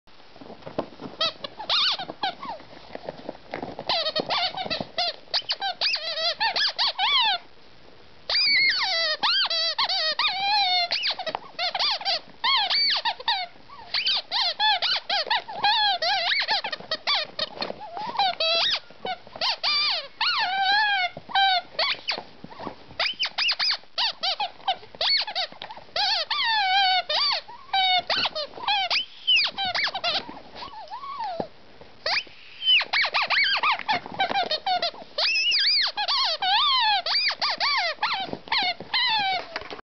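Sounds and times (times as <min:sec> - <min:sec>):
squeaky toy squeaking: 0:01.2 - 0:02.6, 0:03.8 - 0:07.4, 0:08.3 - 0:39.7.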